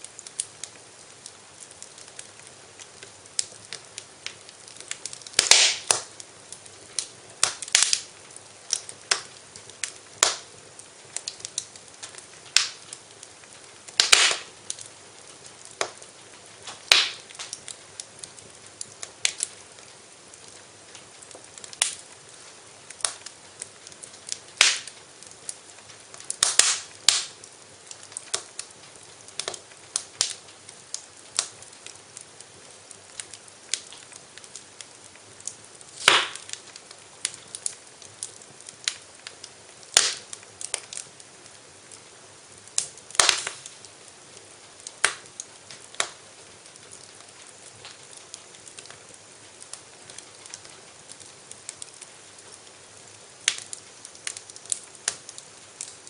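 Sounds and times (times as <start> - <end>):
faint steady hiss: 0.0 - 56.0
wood fire crackling: 0.0 - 56.0.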